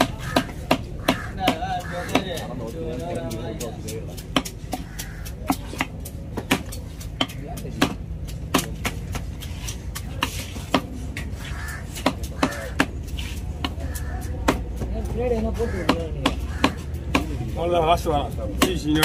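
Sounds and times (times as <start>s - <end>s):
knife chopping on wooden block: 0.0s - 11.0s, 12.0s - 14.9s, 15.8s - 17.4s.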